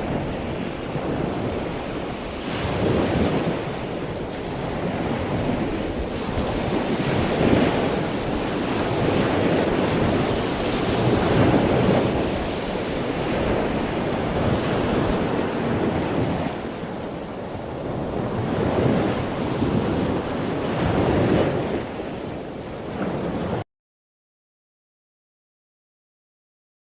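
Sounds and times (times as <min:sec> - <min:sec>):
ocean waves breaking on shore: 0:00.0 - 0:23.6.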